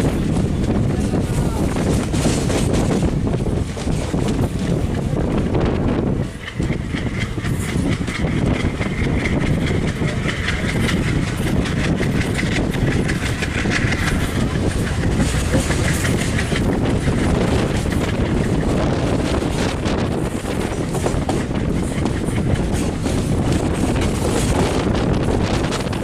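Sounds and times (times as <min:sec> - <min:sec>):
train coach rumbling: 0:00.0 - 0:26.0
wheels clicking over track: 0:00.0 - 0:26.0.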